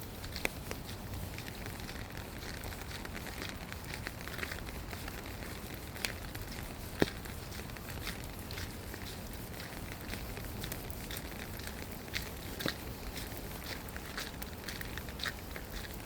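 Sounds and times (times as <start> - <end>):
light rain pattering and dripping: 0.0 - 16.0.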